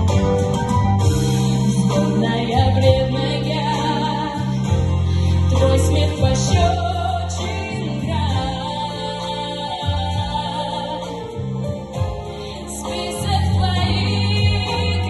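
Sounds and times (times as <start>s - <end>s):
instrumental backing with bass: 0.0s - 15.0s.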